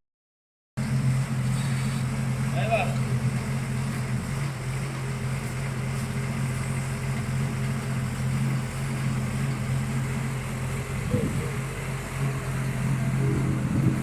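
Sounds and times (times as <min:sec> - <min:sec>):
diesel engine running: 0:00.8 - 0:14.0.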